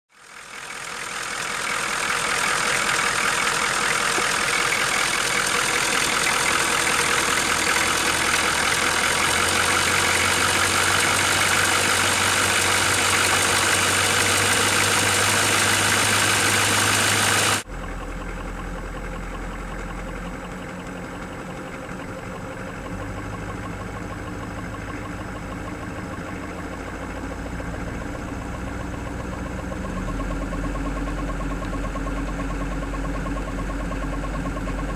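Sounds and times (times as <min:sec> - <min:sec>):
diesel engine idling with knocking: 0:00.1 - 0:34.9.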